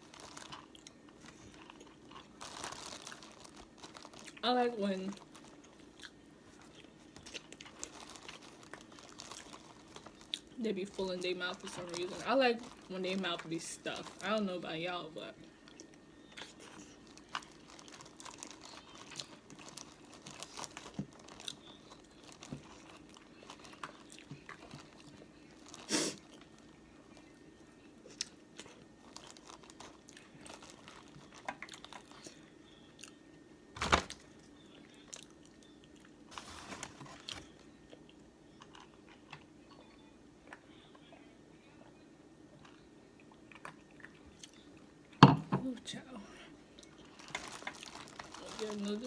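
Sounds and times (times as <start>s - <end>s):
wet chewing and crunching: 0.0s - 14.3s, 15.4s - 33.2s, 33.8s - 41.0s, 42.6s - 45.2s, 46.7s - 49.0s.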